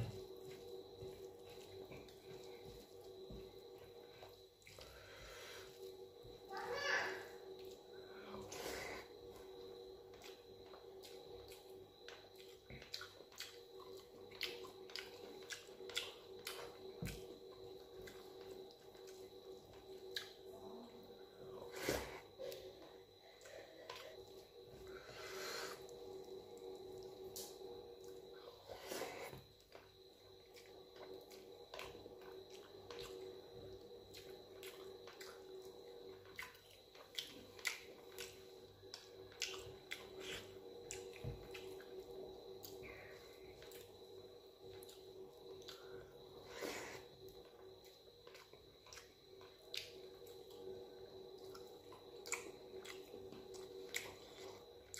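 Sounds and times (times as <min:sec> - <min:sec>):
person chewing food: 0:00.0 - 0:06.0, 0:10.0 - 0:20.4, 0:22.4 - 0:46.6, 0:47.2 - 0:54.9
faint steady hum: 0:00.0 - 0:54.9.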